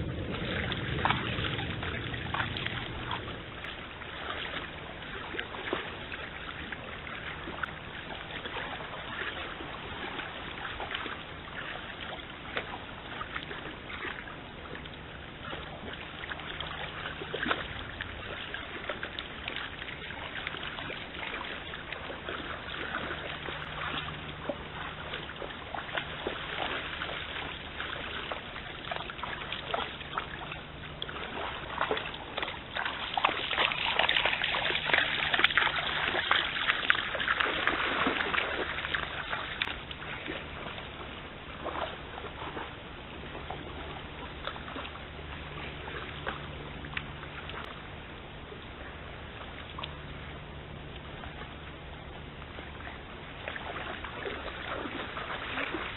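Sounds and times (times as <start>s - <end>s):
deer splashing through stream: 0.0s - 55.9s
steady low hum: 0.0s - 55.9s.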